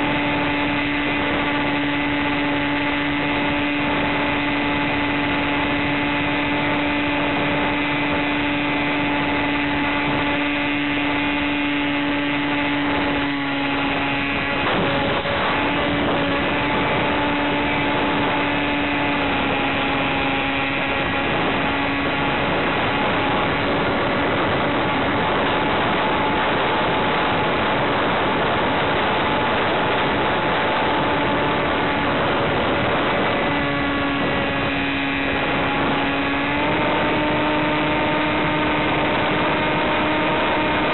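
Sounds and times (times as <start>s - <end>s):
model plane electric motor hum: 0.0s - 40.9s.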